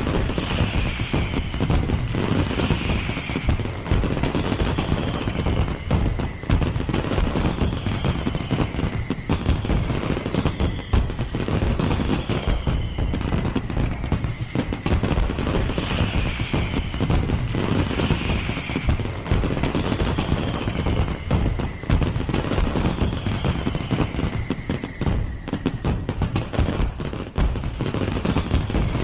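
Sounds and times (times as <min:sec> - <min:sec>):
high falling whistle: 0:00.0 - 0:26.8
fireworks bangs and crackles: 0:00.0 - 0:29.0.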